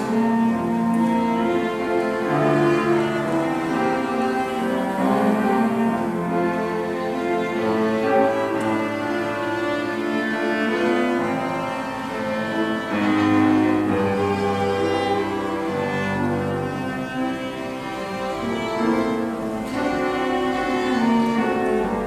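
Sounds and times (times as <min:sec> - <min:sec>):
cello: 0:00.0 - 0:22.0
piano: 0:00.0 - 0:22.0
violin: 0:00.0 - 0:22.0.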